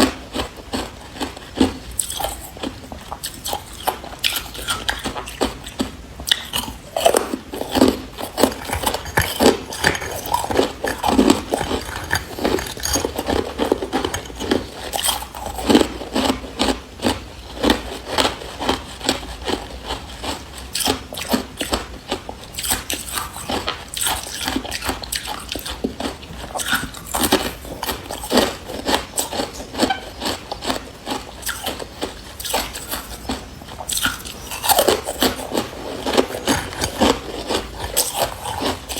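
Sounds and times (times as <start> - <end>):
ice being chewed crunching: 0.0 - 38.9.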